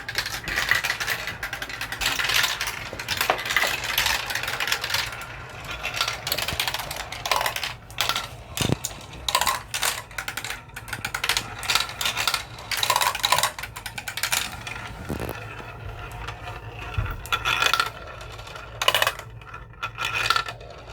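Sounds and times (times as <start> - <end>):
marbles rolling down a track: 0.0 - 20.9.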